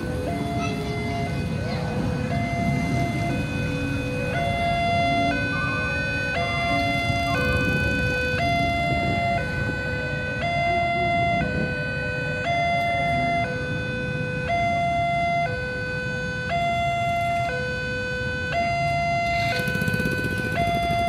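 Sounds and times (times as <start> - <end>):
locomotive rumble: 0.0 - 15.2, 18.6 - 21.0
two-tone warning siren: 0.0 - 21.0.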